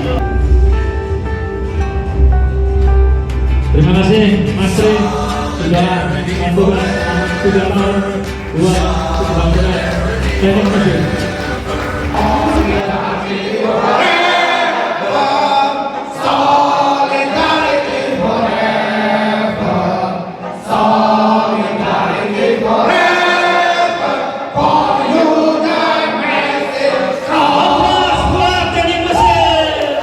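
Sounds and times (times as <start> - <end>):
choir singing: 4.7 - 30.0.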